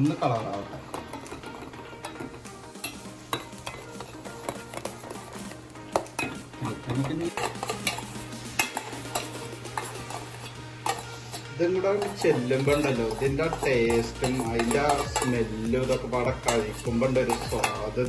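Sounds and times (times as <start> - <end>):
metal spoon scraping saucepan: 0.0 - 18.0.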